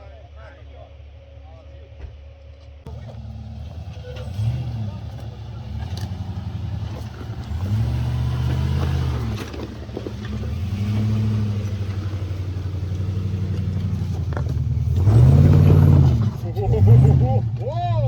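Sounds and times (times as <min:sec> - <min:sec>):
engine revving under load: 0:02.9 - 0:18.0.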